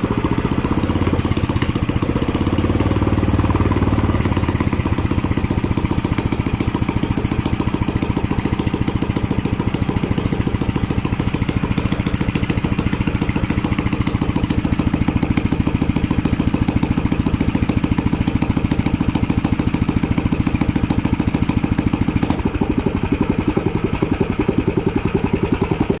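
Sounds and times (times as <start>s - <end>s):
small petrol engine idling: 0.0s - 26.0s.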